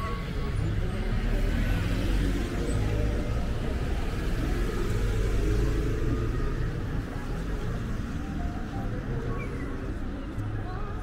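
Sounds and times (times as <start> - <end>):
cars passing: 0.0 - 9.3
low rumble of city traffic: 0.0 - 11.0.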